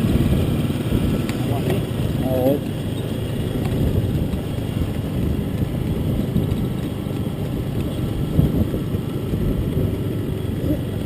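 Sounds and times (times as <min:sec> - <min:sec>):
wind noise on microphone: 0:00.0 - 0:01.6, 0:03.6 - 0:11.0
vehicle engine rumble: 0:00.0 - 0:11.0.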